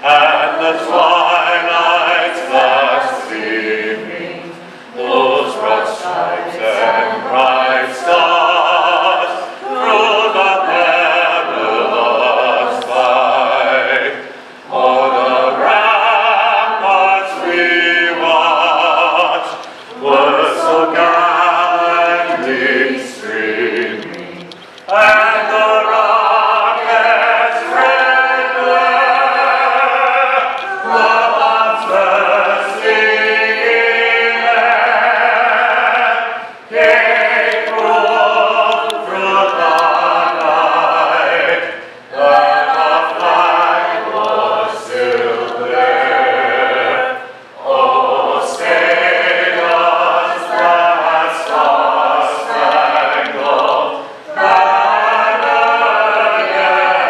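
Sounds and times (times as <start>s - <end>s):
vocal group singing: 0.0s - 57.0s.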